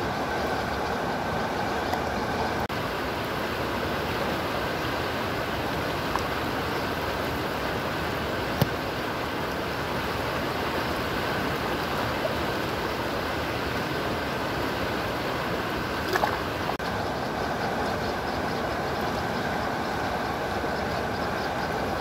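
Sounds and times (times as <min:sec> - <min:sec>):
river water rushing over rapids: 0:00.0 - 0:20.8.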